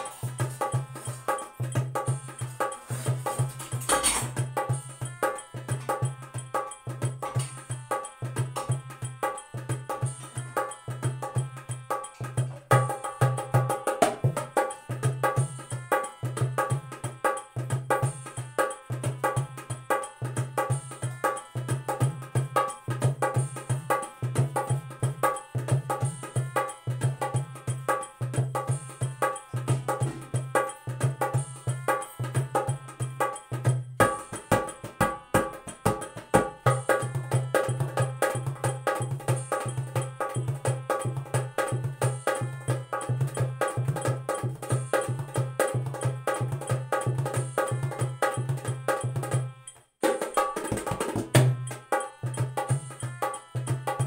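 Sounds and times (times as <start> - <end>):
dholak bass strokes: 0.0 - 54.0
dholak treble strokes: 0.0 - 54.0.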